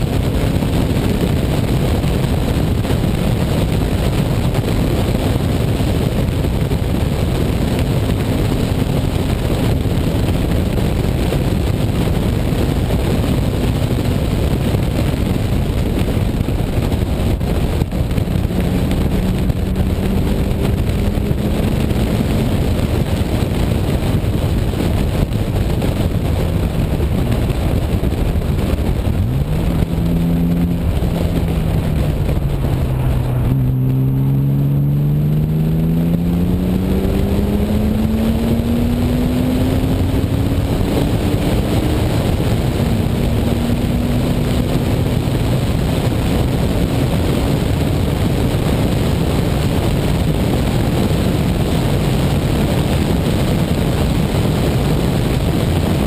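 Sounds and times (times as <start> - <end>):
car engine at full throttle: 0.0 - 56.0
wind buffeting on microphone: 0.0 - 56.0.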